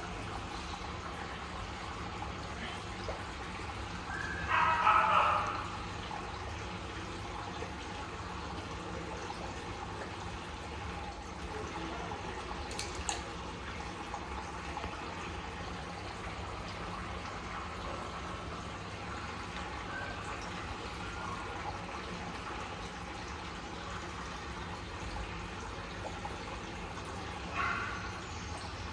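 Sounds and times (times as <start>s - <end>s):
water running into fish tank: 0.0s - 28.9s.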